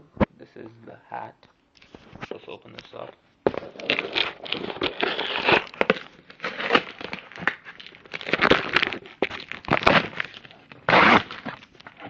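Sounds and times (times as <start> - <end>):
packaging crinkling: 1.8 - 12.0.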